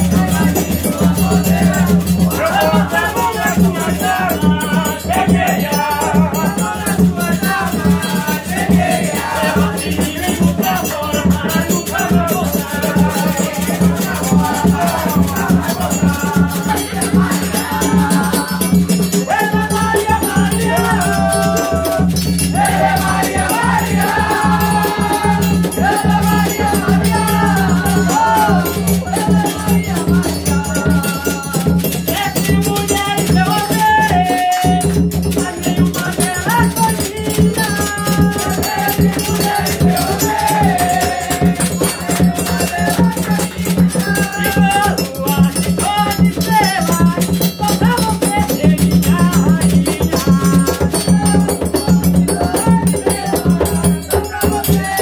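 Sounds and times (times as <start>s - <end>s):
drums: 0.0s - 55.0s
voices singing together: 0.0s - 55.0s.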